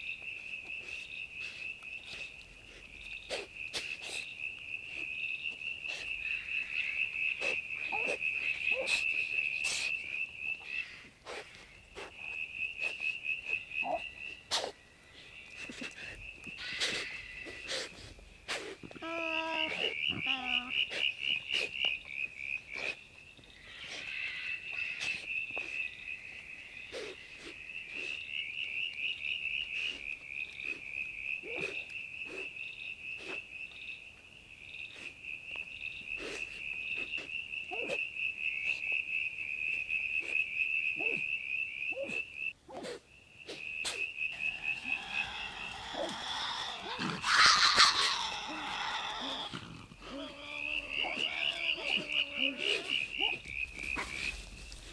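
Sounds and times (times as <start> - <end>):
night insects trilling: 0.0 - 54.9.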